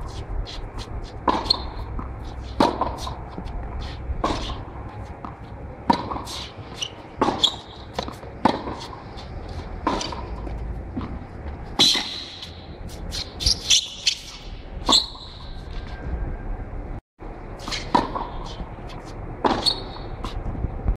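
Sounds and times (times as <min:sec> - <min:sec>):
tennis ball bouncing: 0:00.0 - 0:15.5, 0:17.6 - 0:20.4
racket striking tennis ball: 0:00.0 - 0:15.6, 0:17.6 - 0:20.4.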